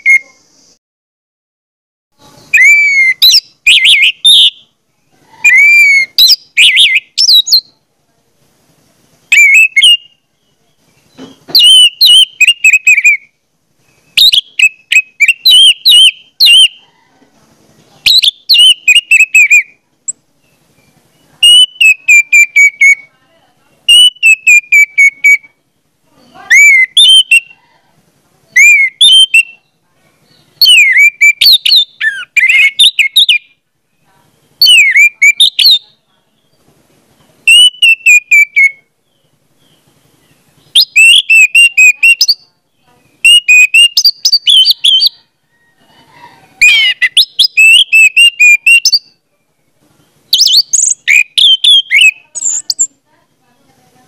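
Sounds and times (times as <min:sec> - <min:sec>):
bird singing: 0:00.0 - 0:00.8, 0:02.2 - 0:07.8, 0:09.2 - 0:27.8, 0:28.5 - 0:53.7.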